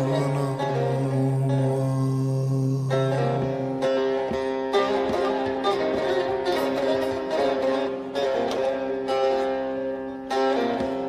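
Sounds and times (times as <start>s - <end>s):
plucked string instruments: 0.0s - 11.0s.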